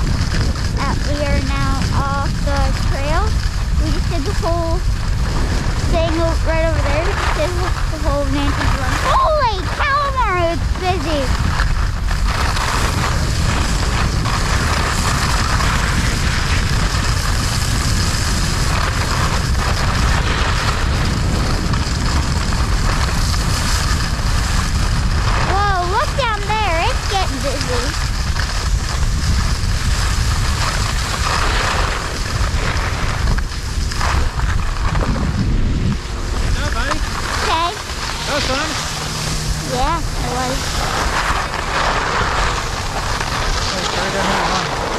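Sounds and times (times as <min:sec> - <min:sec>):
skis hissing over snow: 0:00.0 - 0:44.9
wind buffeting microphone: 0:00.0 - 0:44.9.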